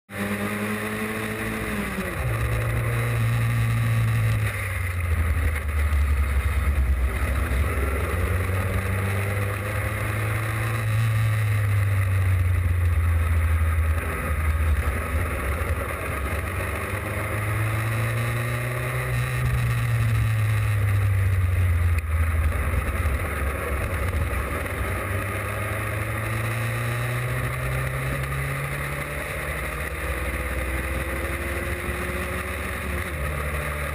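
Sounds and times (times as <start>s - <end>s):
racing car engine running hard: 0.1s - 33.9s
wind and road noise: 0.1s - 33.9s.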